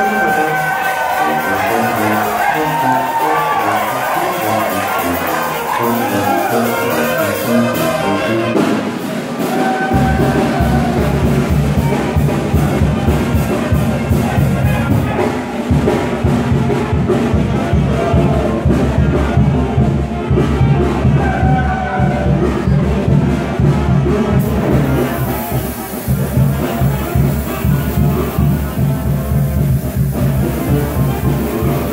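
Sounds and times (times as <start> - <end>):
dance music with brass horns: 0.0 - 31.9
heavy bass and drum beat: 0.0 - 31.9.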